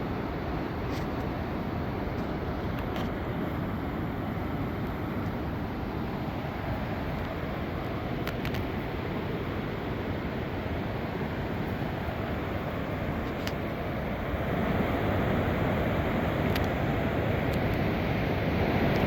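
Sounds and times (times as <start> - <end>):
water rushing over falls: 0.0 - 19.0.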